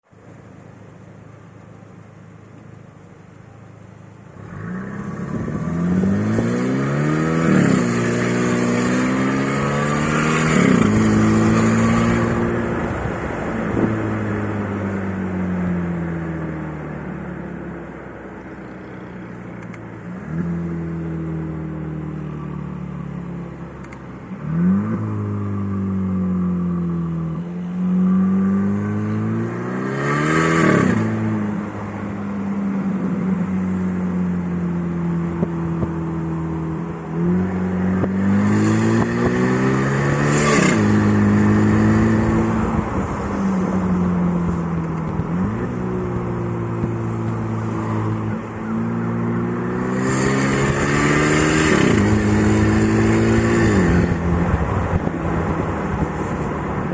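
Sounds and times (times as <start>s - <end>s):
car engine revving: 4.2s - 16.9s, 18.9s - 56.9s.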